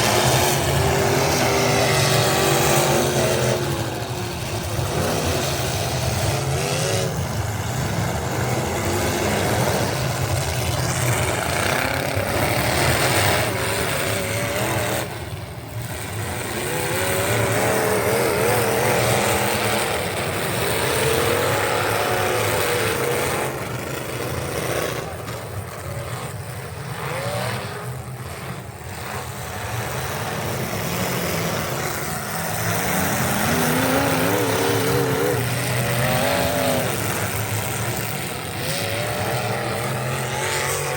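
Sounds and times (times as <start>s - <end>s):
truck engine at high revs: 0.0s - 40.9s.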